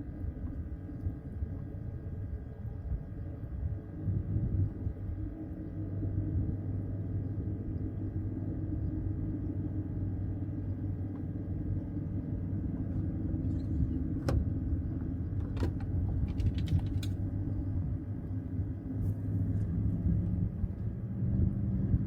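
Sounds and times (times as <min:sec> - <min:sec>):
low motor drone: 0:00.0 - 0:22.0.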